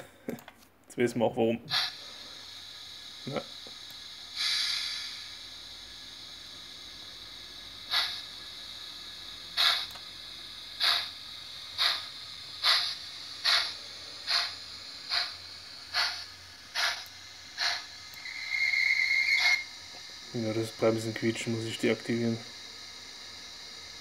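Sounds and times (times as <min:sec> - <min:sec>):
model locomotive steam chuffs: 0:01.7 - 0:24.0.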